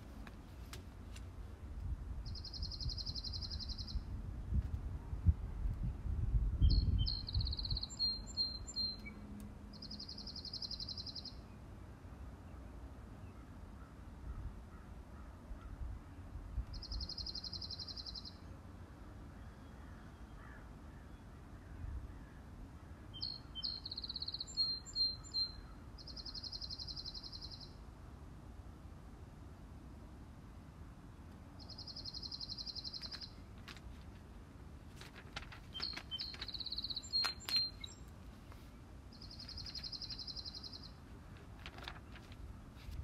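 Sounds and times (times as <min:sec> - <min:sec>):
songbird singing: 0:02.2 - 0:04.2, 0:05.8 - 0:27.9, 0:31.4 - 0:43.0.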